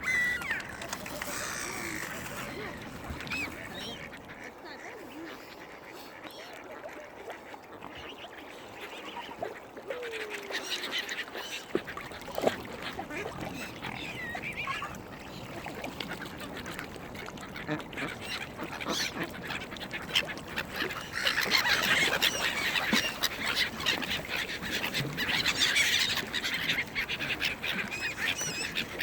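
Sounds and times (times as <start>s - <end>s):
waterbirds calling: 0.0s - 29.0s
ducks quacking: 0.1s - 29.0s.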